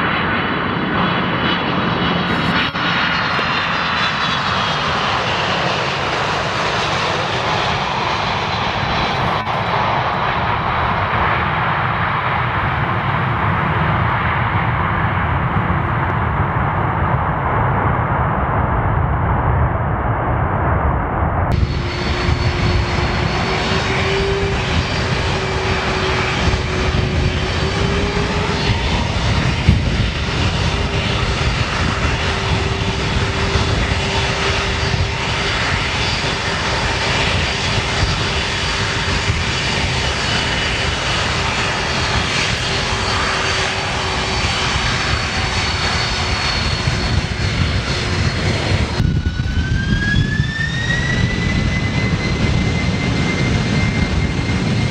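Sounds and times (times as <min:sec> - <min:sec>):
jet engine whine rising: 0:00.0 - 0:54.9
jet engines running: 0:00.0 - 0:54.9.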